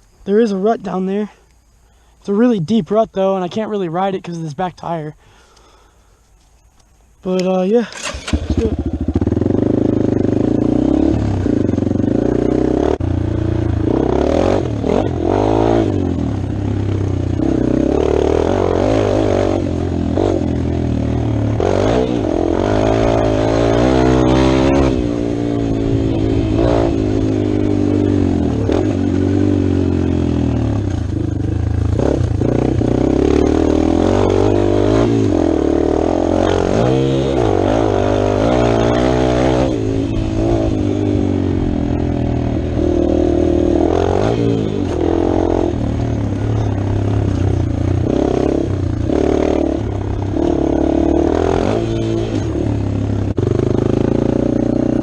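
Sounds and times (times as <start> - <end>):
dirt bike engine revving: 7.8 - 55.0.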